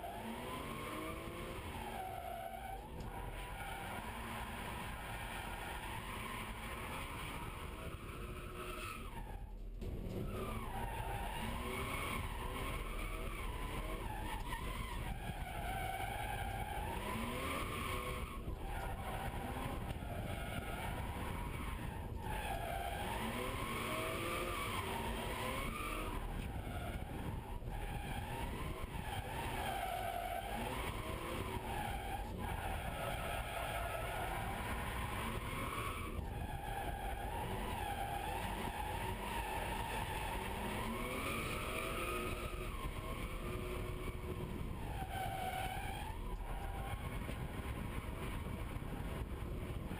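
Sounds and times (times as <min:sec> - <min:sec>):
car engine revving: 0:00.0 - 0:02.1, 0:03.0 - 0:49.9
tyres skidding and squealing: 0:00.0 - 0:49.9.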